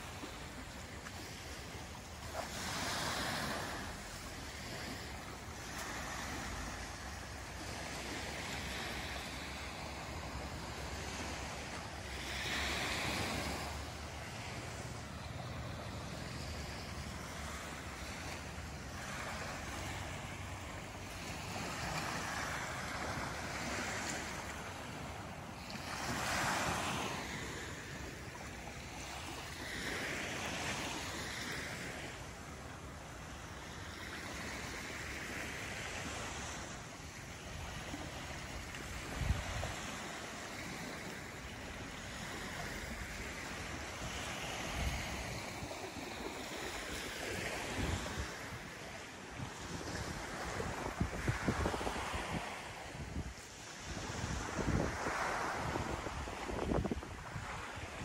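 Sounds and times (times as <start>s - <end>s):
sea waves washing onto sand: 0.0s - 58.0s.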